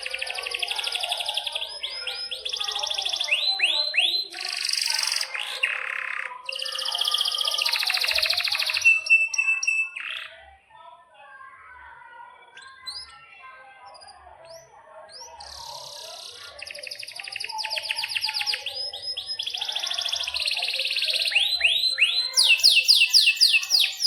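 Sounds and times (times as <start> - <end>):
canary singing: 0.0 - 10.6, 12.2 - 24.0.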